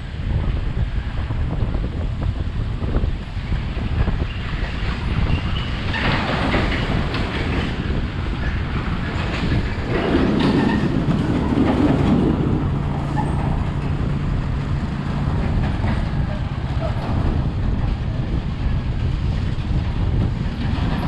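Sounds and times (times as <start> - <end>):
motorbike rumble: 0.0 - 21.0
wind buffeting microphone: 0.0 - 21.0.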